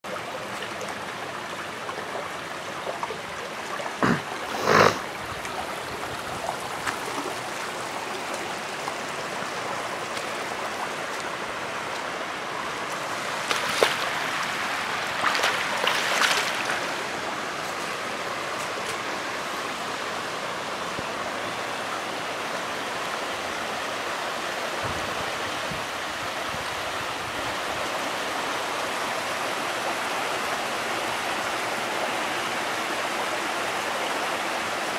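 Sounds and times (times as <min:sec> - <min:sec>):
floodwater rushing across lawn: 0:00.1 - 0:34.9.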